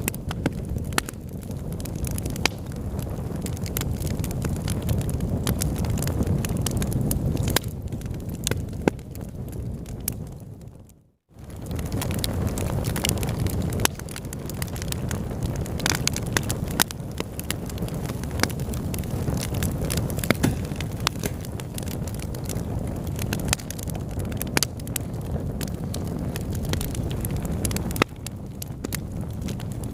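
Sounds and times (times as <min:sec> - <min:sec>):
burning wood crackling and popping: 0:00.0 - 0:29.9
fire burning in a fireplace: 0:00.0 - 0:29.9.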